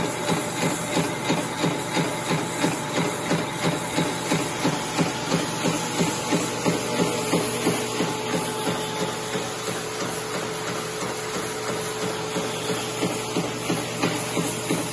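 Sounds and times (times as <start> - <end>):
wire cutting machine clattering: 0.0 - 14.9.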